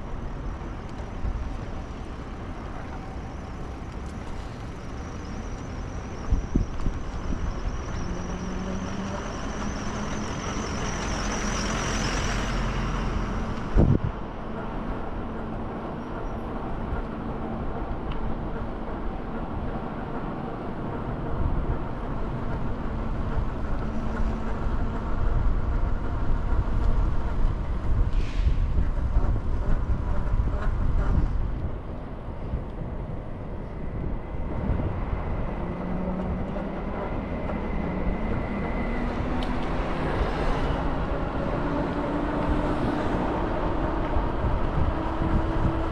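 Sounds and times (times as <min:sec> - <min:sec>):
traffic rumble: 0:00.0 - 0:45.9.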